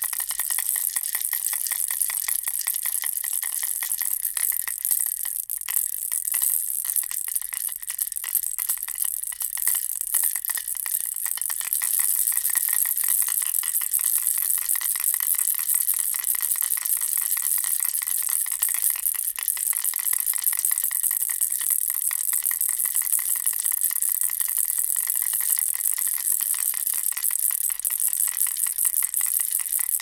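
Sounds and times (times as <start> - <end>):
baby rattle shaking: 0.0 - 30.0.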